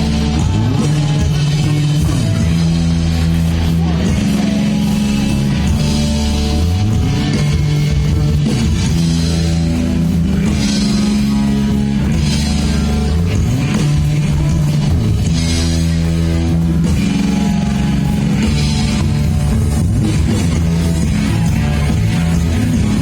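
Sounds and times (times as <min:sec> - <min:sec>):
drums and cymbals: 0:00.0 - 0:23.0
electric guitar chords: 0:00.0 - 0:23.0.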